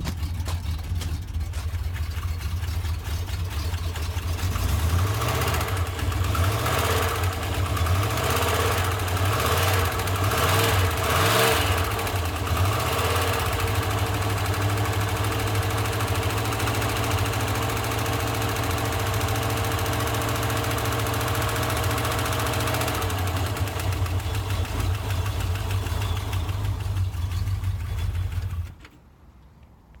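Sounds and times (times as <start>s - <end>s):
car engine running with knock: 0.0s - 29.0s.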